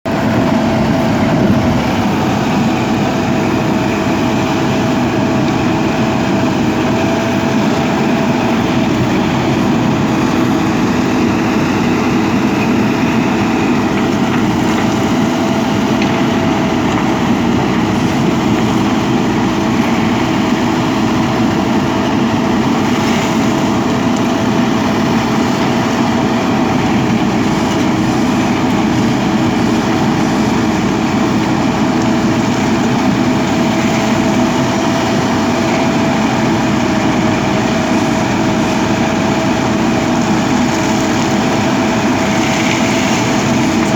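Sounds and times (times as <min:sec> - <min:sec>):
steady engine hum: 0:00.0 - 0:43.9.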